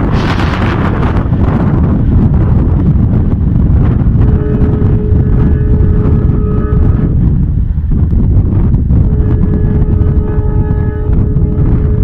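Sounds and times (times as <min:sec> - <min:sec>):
train rumbling at speed: 0:00.0 - 0:12.0
wind rushing over microphone: 0:00.0 - 0:12.0.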